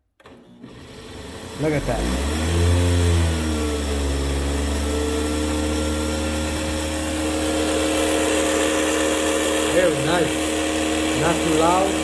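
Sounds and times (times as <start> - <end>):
blender motor whirring: 0.2 - 12.0.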